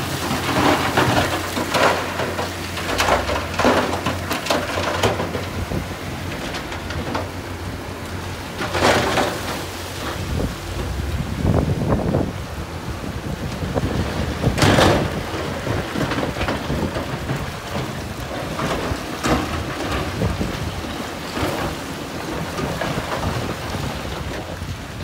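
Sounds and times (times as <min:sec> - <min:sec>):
rock crunching and clattering: 0:00.0 - 0:12.2, 0:13.5 - 0:24.6
low diesel rumble: 0:00.0 - 0:25.0.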